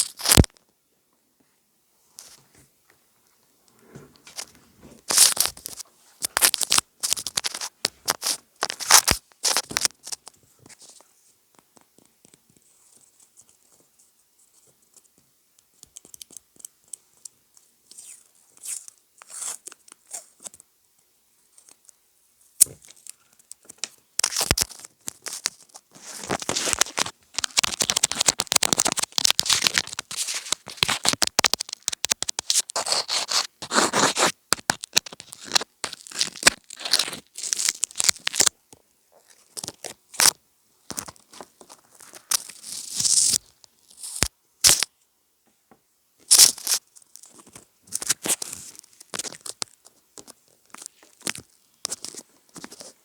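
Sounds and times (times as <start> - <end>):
crackling and crinkling rustles: 0.0 - 45.0, 46.2 - 53.0.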